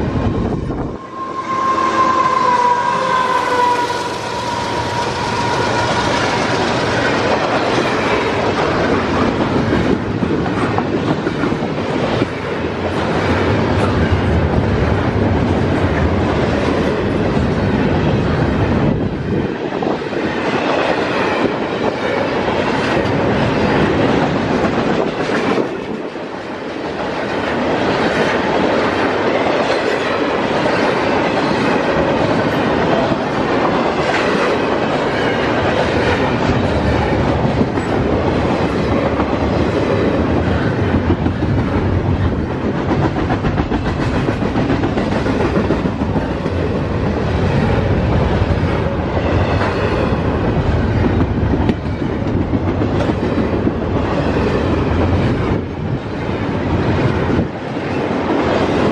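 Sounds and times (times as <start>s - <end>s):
steel wheels on rail: 0.0s - 58.9s.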